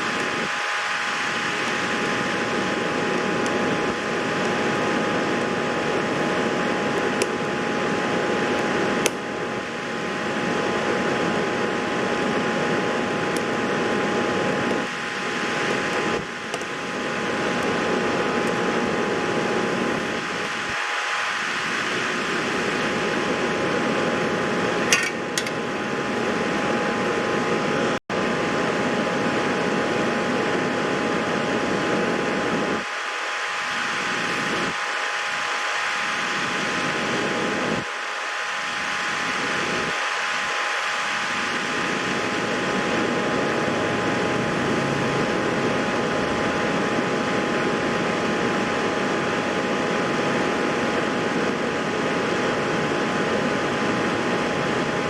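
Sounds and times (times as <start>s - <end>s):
fan-like whir and hiss: 0.0s - 55.0s.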